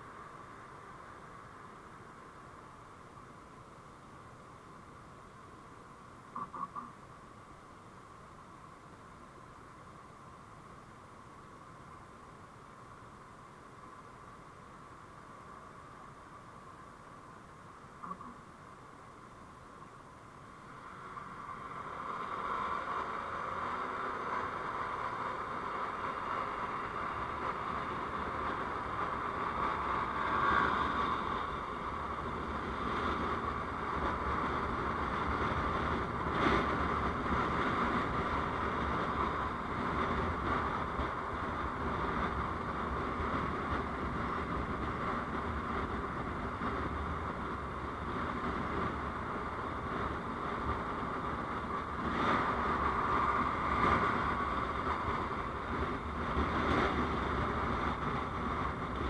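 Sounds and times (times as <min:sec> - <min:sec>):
vehicle road and wind noise: 0:00.0 - 0:59.0.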